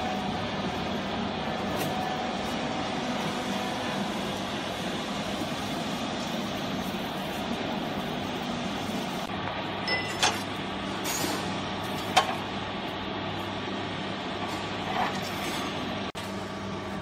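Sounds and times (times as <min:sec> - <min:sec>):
machine hum with hiss: 0:00.0 - 0:17.0.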